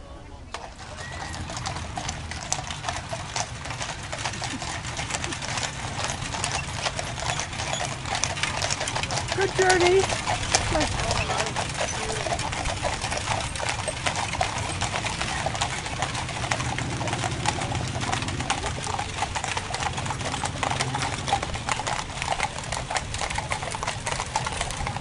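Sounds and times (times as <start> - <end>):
horse hooves clip-clopping on road: 0.5 - 25.0.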